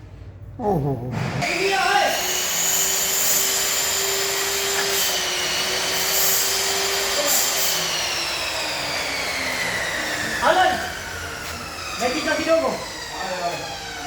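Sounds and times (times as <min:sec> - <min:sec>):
electric power tool motor whine: 0:01.4 - 0:14.0.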